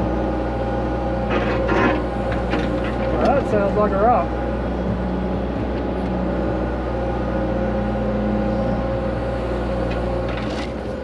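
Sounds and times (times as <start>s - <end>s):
digger diesel engine running: 0.0s - 11.0s.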